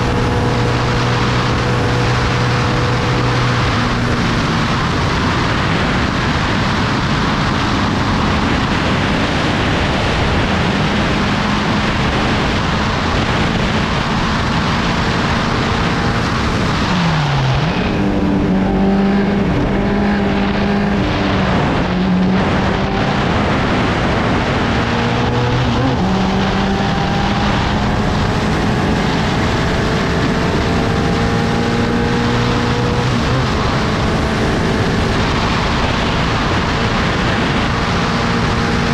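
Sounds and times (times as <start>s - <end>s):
race car engine running hard: 0.0s - 38.9s
wind rush: 0.0s - 38.9s.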